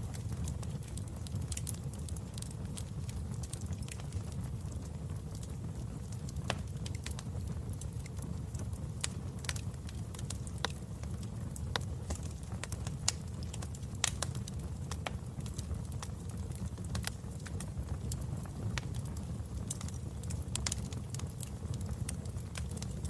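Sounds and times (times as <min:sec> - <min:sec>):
burning logs crackling and popping: 0:00.0 - 0:23.0
fire burning low rumble: 0:00.0 - 0:23.0.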